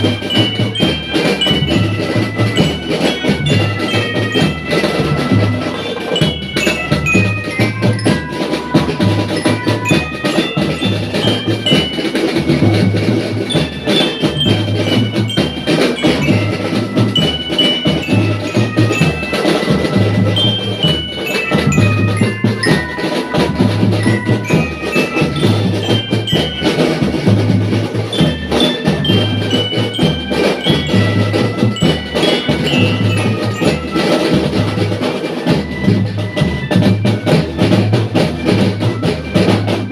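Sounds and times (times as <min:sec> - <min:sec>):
glockenspiel melody: 0:00.0 - 0:39.9
marching drums: 0:00.0 - 0:39.9.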